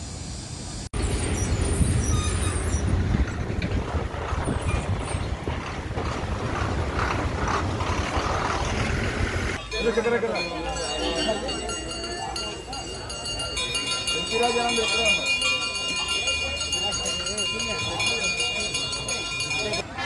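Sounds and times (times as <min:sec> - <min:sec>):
tyre and road noise: 0:00.0 - 0:20.0
bus diesel engine passing: 0:00.1 - 0:20.0.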